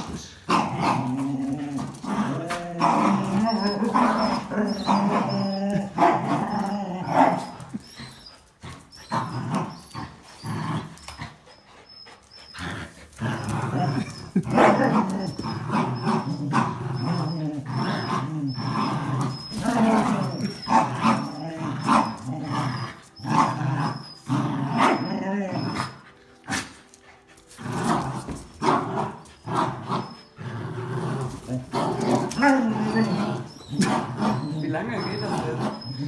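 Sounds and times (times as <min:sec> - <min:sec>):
dogs growling in play: 0:00.0 - 0:36.0.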